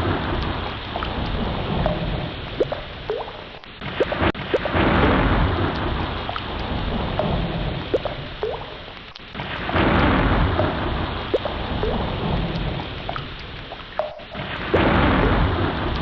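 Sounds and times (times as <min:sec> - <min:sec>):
deep rumble: 0:00.0 - 0:03.2, 0:03.9 - 0:08.9, 0:09.6 - 0:16.0
ocean surf rushing: 0:00.0 - 0:16.0.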